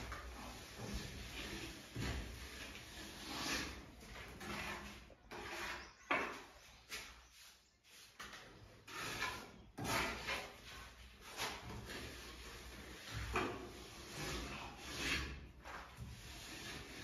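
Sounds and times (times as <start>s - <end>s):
trowel scraping wet plaster: 0.0s - 17.0s.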